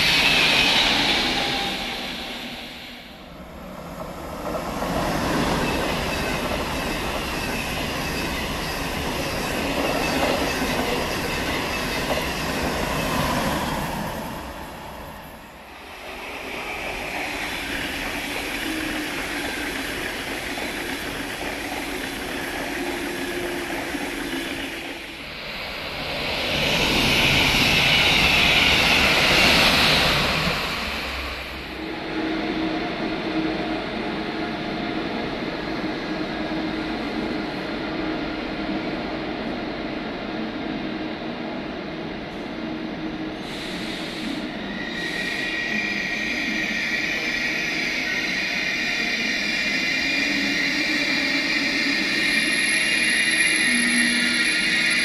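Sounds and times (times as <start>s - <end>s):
train passing at speed: 0.0s - 55.0s.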